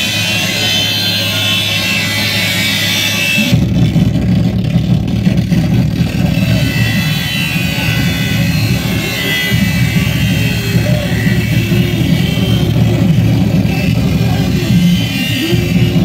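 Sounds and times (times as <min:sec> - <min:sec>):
dense low rumble: 0:00.0 - 0:16.0.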